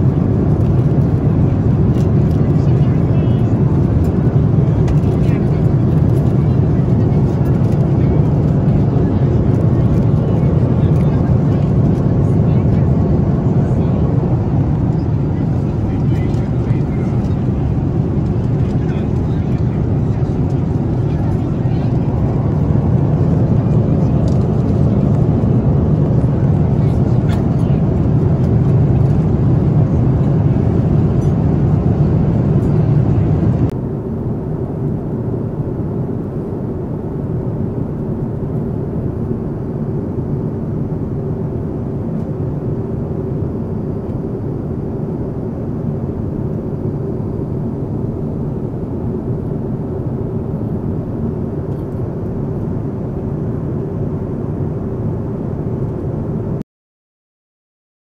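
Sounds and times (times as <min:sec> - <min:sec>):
airliner cabin engine drone: 0:00.0 - 0:56.6.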